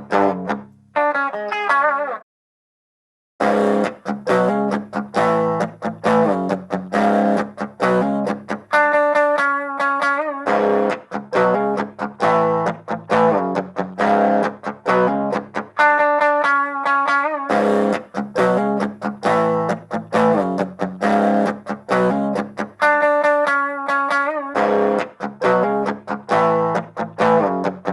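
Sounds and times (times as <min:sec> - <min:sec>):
electric guitar riff: 0:00.0 - 0:02.2, 0:03.4 - 0:27.9.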